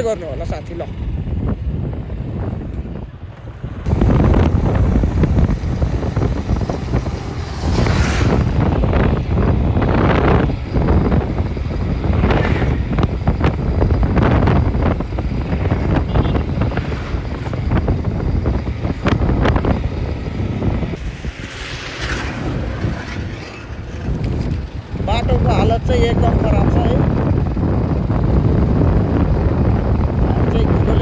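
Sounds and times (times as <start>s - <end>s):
road vehicle rumbling: 0.0s - 31.0s
wind buffeting microphone: 0.0s - 31.0s.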